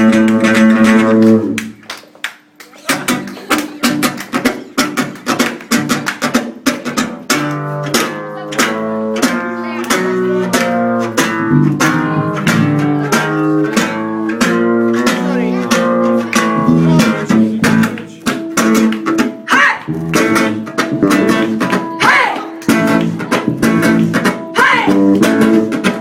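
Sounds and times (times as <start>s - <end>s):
acoustic guitar strumming: 0.0s - 1.6s, 2.8s - 26.0s.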